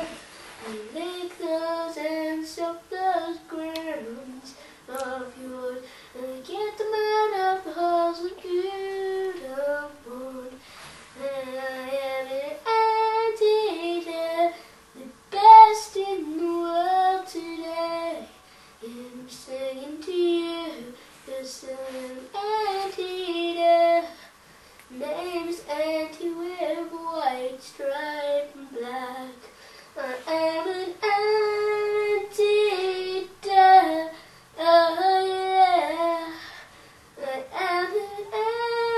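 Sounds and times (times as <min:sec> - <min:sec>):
child singing unaccompanied: 0:00.0 - 0:10.6, 0:11.2 - 0:24.2, 0:24.9 - 0:36.5, 0:37.2 - 0:38.9.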